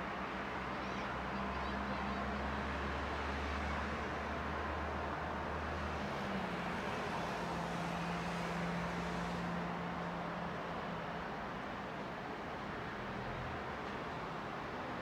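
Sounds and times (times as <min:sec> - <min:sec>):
distant road traffic hum: 0:00.0 - 0:15.0.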